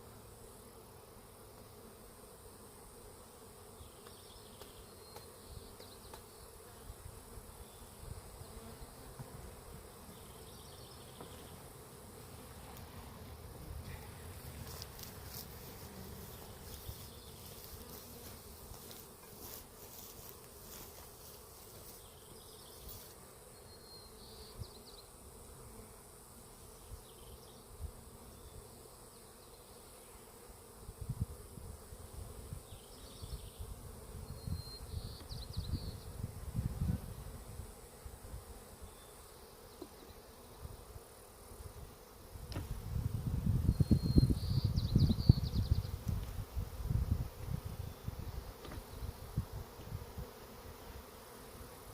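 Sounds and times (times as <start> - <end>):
honeybees buzzing: 0.0 - 51.9.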